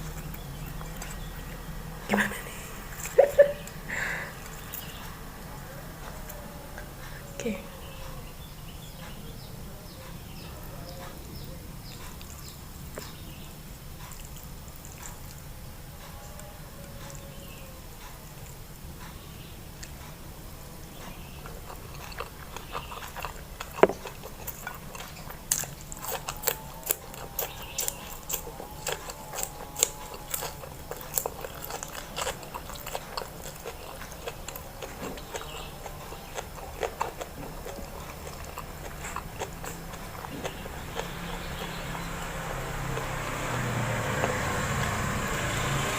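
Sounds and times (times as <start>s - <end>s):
chewing: 0.0s - 45.9s.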